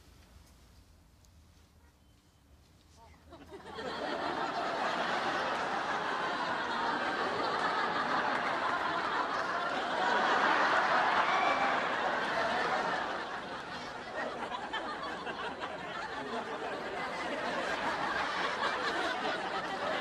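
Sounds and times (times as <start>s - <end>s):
studio audience laughing: 3.3s - 20.0s.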